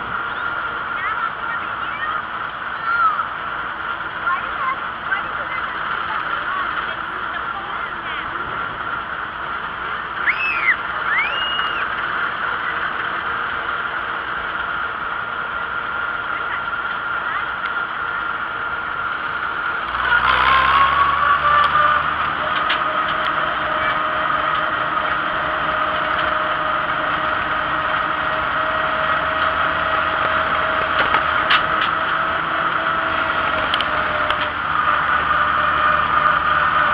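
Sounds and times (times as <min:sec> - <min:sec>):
deep rumble: 0:00.0 - 0:36.9
tractor engine running: 0:00.0 - 0:36.9.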